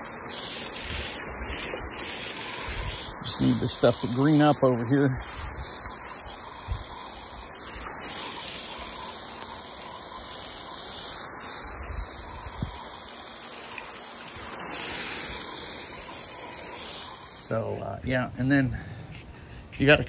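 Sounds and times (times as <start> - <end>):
water spraying onto grass: 0.0 - 17.9.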